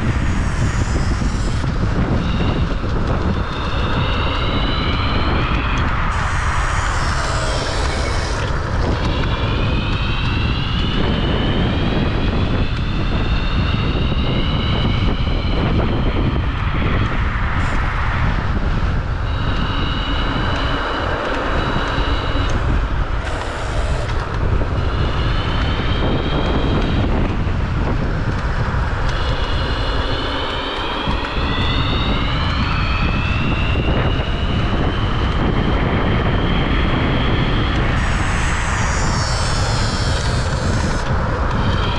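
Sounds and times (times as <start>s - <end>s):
electric scooter motor whining: 0.0s - 16.9s, 18.6s - 41.9s
wind rush on microphone: 0.0s - 41.9s.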